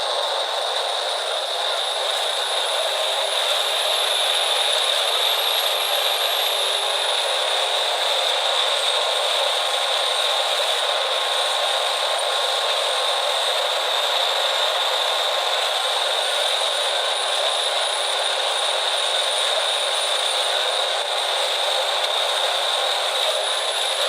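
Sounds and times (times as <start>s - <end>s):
machine noise with high hiss: 0.0s - 24.0s.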